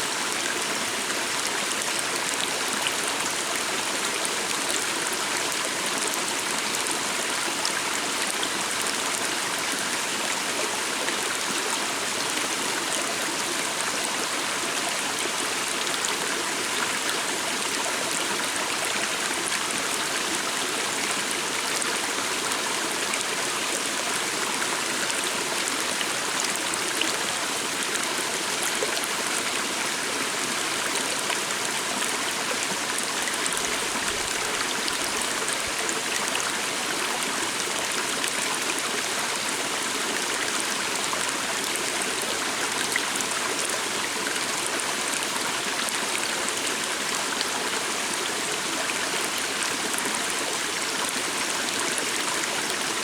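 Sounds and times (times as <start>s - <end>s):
calm stream running: 0.0s - 53.0s.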